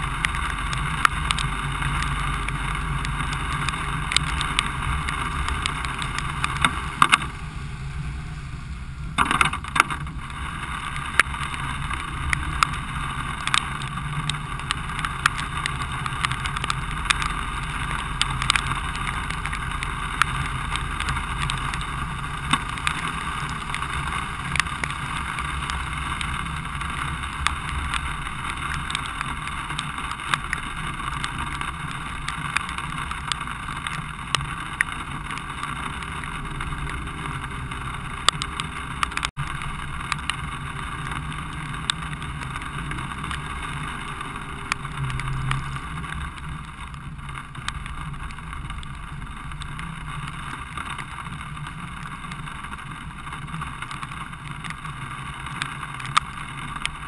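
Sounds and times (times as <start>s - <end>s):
raindrops ticking on camera: 0.0s - 57.0s
vehicle rumble and hiss: 0.0s - 57.0s.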